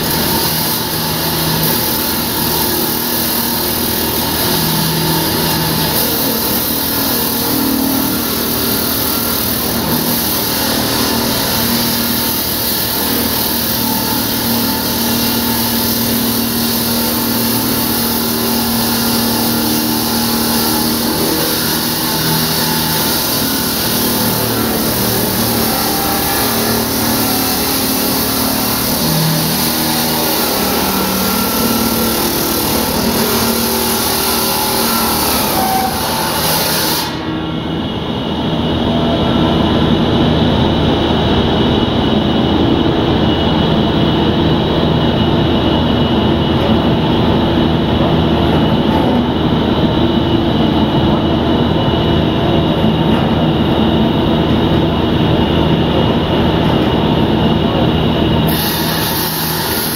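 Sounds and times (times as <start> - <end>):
concrete saw cutting: 0.0 - 40.5, 51.1 - 59.9.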